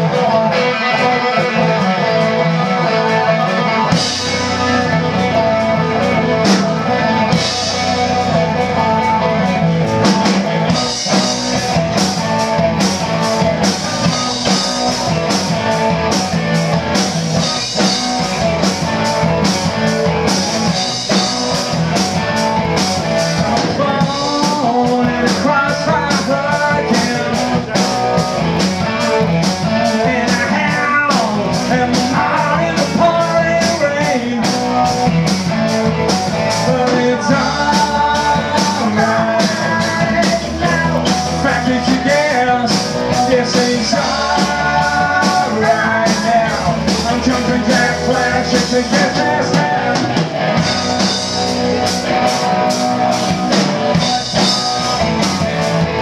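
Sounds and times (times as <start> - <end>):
bass guitar: 0.0 - 56.0
distorted electric guitars: 0.0 - 56.0
drum kit beat: 0.0 - 56.0.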